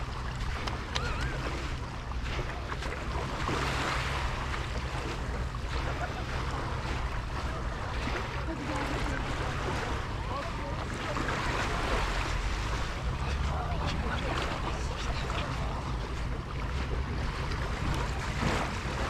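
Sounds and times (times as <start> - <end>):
steady low rumble: 0.0 - 19.0
waves washing on shore: 0.0 - 19.0.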